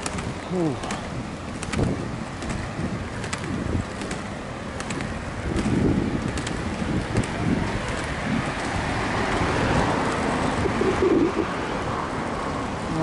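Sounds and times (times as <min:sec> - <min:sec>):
roller skate wheels rumbling on road: 0:00.0 - 0:13.0.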